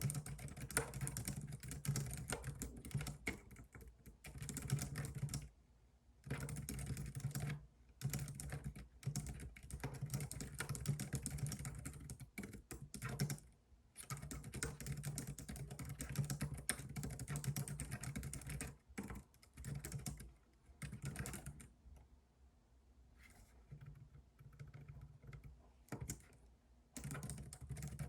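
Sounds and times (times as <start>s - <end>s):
fast typing on a keyboard: 0.0s - 5.5s, 6.2s - 21.7s, 23.7s - 26.4s, 27.0s - 28.0s.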